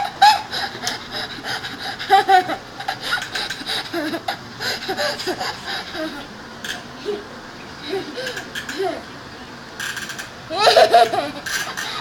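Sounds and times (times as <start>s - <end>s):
young child laughing: 0.0s - 6.3s, 7.0s - 9.1s, 10.5s - 12.0s.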